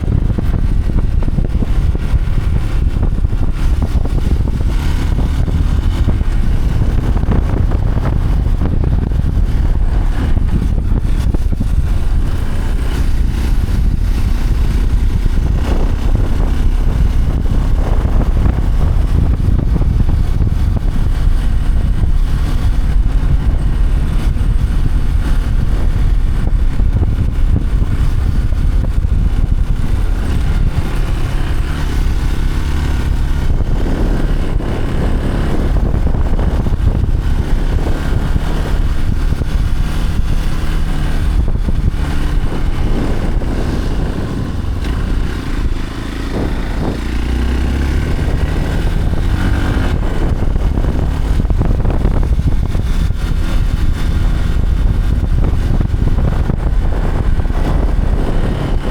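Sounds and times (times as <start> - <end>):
vehicle engine rumbling: 0.0 - 58.9.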